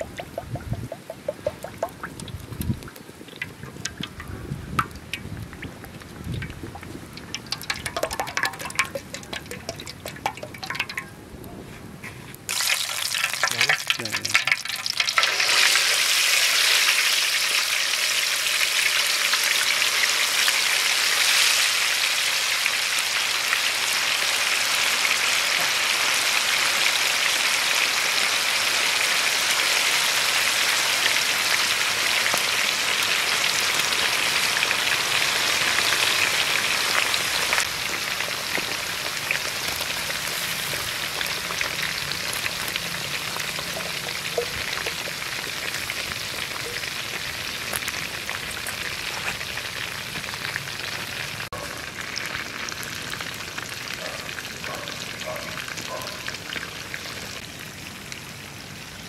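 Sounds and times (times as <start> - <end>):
meat sizzling in hot oil: 0.0 - 11.0, 12.5 - 59.0
oil trickling into a wok: 1.3 - 11.2, 12.4 - 59.0.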